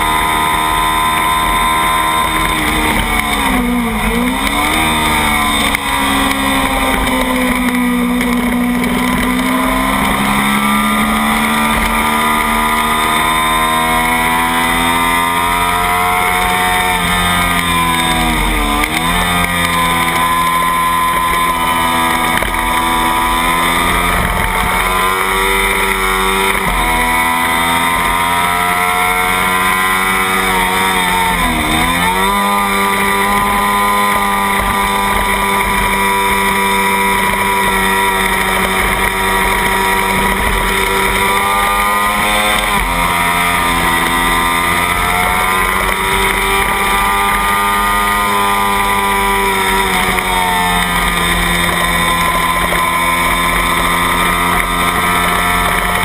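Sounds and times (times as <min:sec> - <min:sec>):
race motorcycle engine at high revs: 0:00.0 - 0:56.0.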